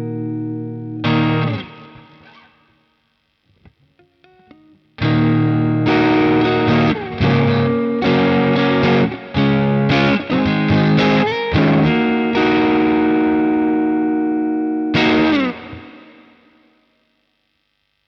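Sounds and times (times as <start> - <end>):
electric guitar picked notes: 0.0 - 2.8, 3.5 - 17.2
overdriven electric guitar chords: 0.0 - 2.8, 3.4 - 18.0.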